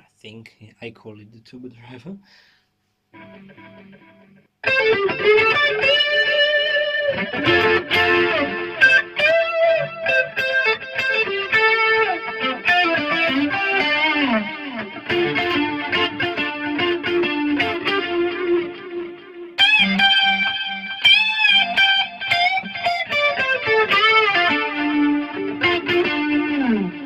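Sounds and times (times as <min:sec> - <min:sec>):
overdriven electric guitar lead: 0:03.2 - 0:27.0.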